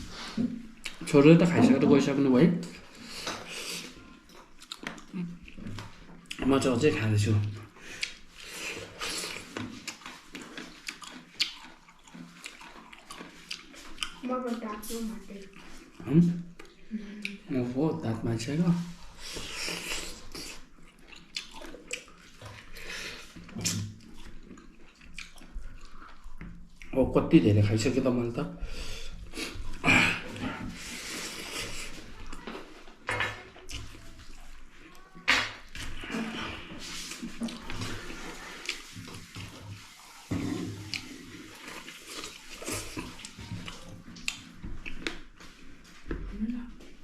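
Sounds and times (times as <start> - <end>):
person chewing with wet mouth noises: 0.0 - 1.5, 2.6 - 17.6, 18.8 - 27.0, 28.6 - 47.0.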